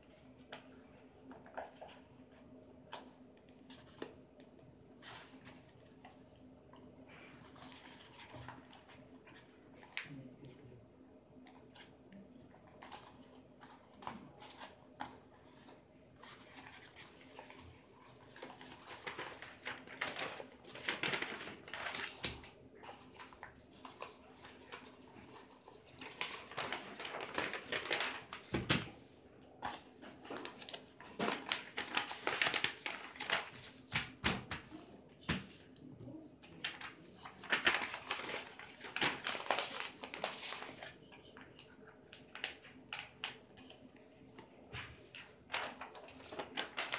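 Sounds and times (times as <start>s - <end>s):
paper rustling and crackling: 0.2s - 10.6s, 11.4s - 46.9s.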